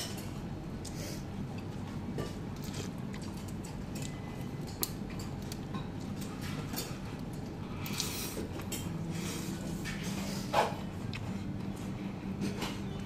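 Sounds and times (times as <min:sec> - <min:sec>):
steady low background hum: 0:00.0 - 0:13.0.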